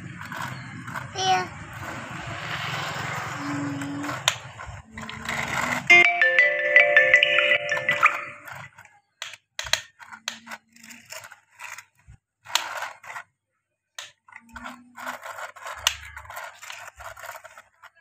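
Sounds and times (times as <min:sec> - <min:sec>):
toy excavator scraping sand: 0:00.0 - 0:05.9, 0:08.4 - 0:13.4, 0:14.0 - 0:18.0.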